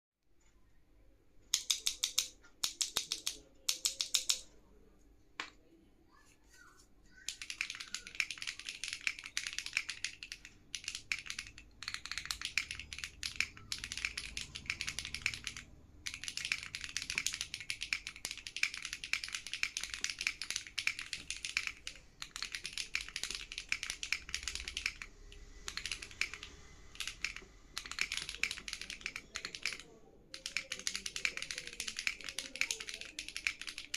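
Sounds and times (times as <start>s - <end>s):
mechanical keyboard typing: 1.5s - 4.5s, 7.2s - 33.9s.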